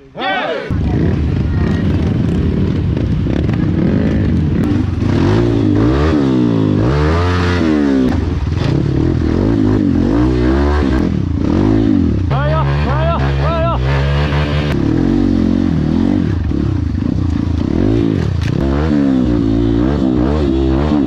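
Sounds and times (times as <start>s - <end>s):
motorcycle engine revving: 0.7s - 21.0s.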